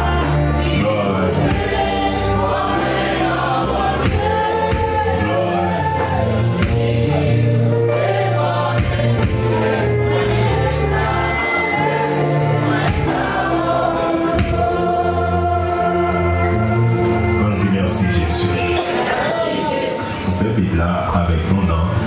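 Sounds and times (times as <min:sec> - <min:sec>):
bass line: 0:00.0 - 0:18.8
steady percussion beat: 0:00.0 - 0:19.6
voices singing together: 0:00.0 - 0:20.3.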